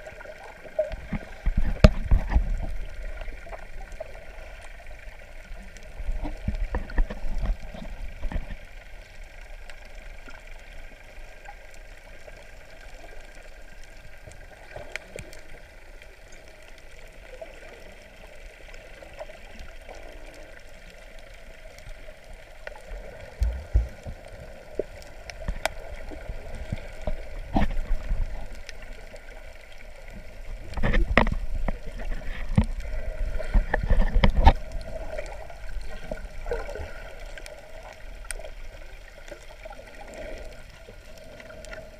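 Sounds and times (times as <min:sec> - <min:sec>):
water gurgling and sloshing: 0:00.0 - 0:41.9.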